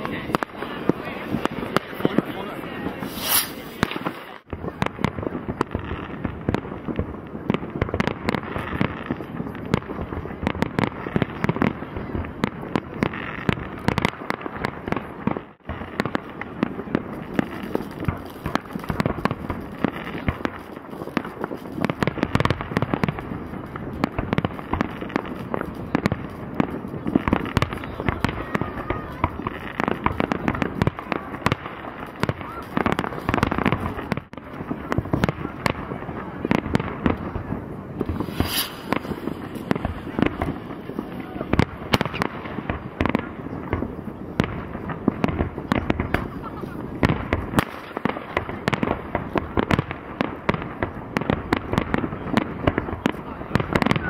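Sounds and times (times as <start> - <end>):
fireworks bangs pops and crackles: 0.0 - 54.0.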